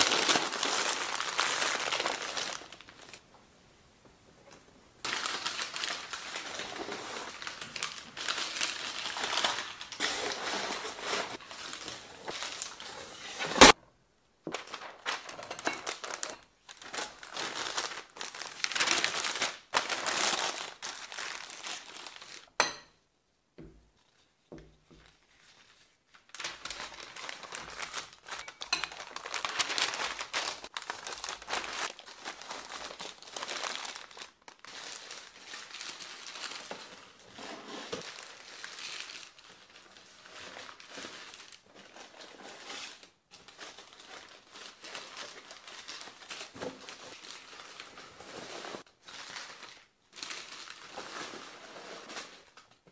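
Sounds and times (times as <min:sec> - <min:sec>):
packing paper crumpling: 0:00.0 - 0:03.3, 0:05.0 - 0:13.8, 0:14.5 - 0:22.5, 0:25.0 - 0:52.8.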